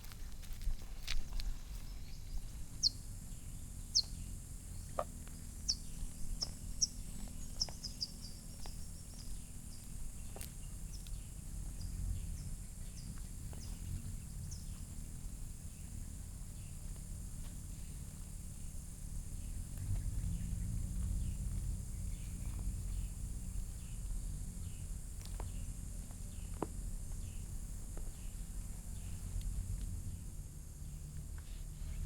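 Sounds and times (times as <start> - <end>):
small birds chirping: 0.5 - 32.0.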